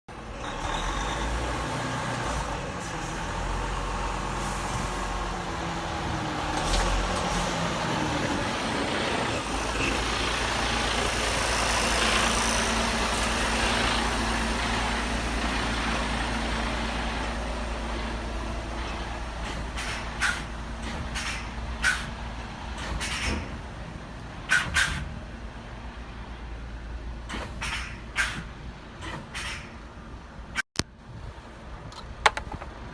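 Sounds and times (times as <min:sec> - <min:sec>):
truck engine running: 0:00.1 - 0:30.5.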